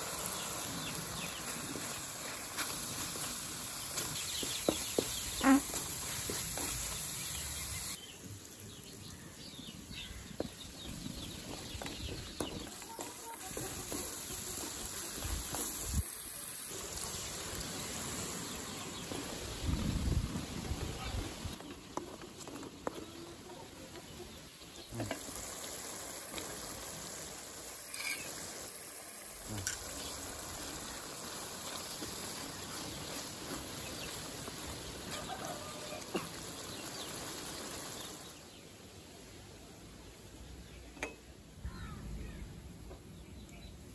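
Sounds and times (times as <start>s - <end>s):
outdoor background: 0.0s - 43.9s.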